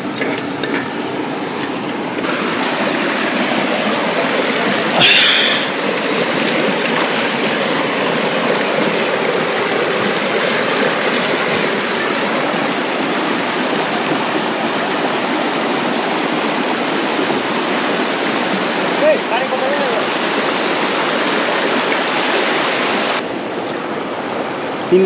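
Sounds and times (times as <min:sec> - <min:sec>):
stream running over stones: 0:00.0 - 0:24.9.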